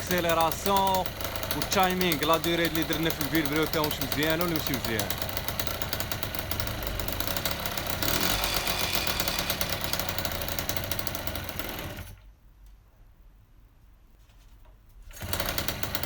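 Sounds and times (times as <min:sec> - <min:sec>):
moped engine running rattly: 0:00.0 - 0:12.2, 0:15.1 - 0:16.0.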